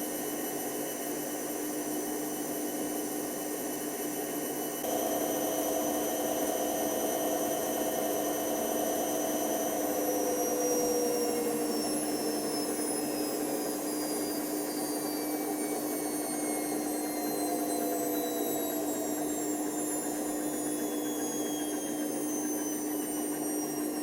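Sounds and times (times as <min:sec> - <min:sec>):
washer dryer motor whine: 0:00.0 - 0:24.0.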